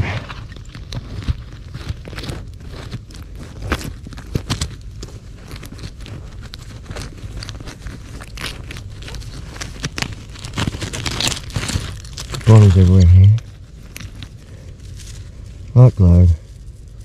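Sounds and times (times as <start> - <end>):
debris crunching and crackling: 0.0 - 17.0.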